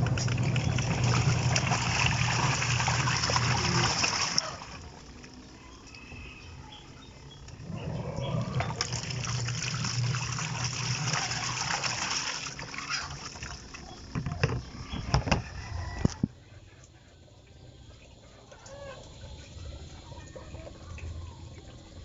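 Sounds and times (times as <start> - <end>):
low motor hum: 0.0 - 22.0
water churning in washing machine: 0.0 - 22.0.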